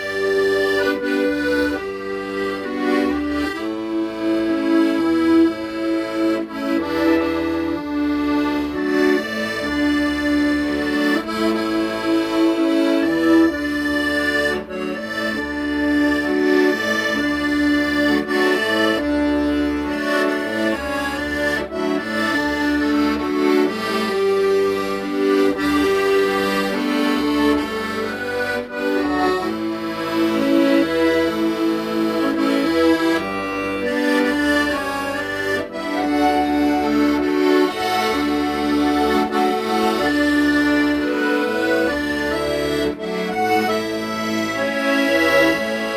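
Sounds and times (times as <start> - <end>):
accordion melody: 0.0 - 45.9
pulsing bass accompaniment: 0.0 - 45.9.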